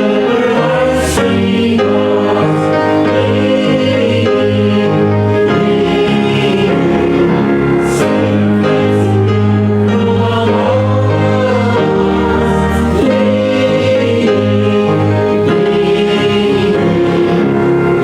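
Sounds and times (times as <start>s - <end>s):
group singing a hymn: 0.0s - 18.0s
instrumental accompaniment: 0.0s - 18.0s.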